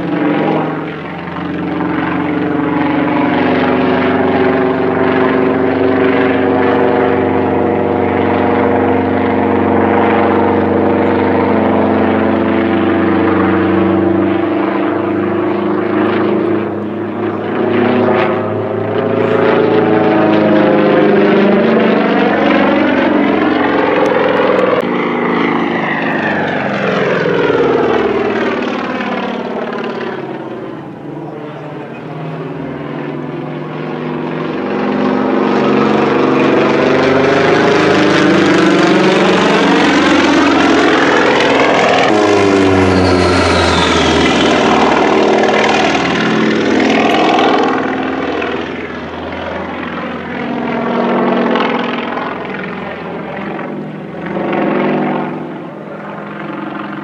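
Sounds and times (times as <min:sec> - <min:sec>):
propeller plane engine: 0:00.0 - 0:57.0.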